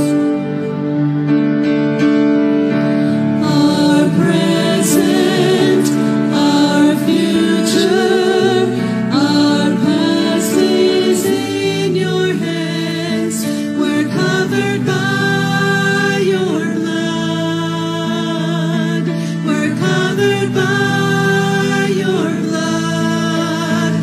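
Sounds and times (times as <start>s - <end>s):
grand piano accompaniment: 0.0s - 24.0s
women singing gospel: 3.4s - 24.0s.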